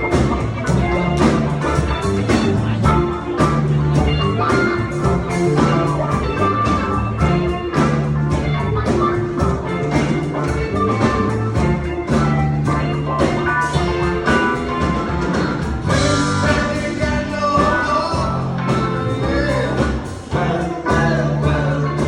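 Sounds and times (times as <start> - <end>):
rock band playing instrumental: 0.0 - 22.0.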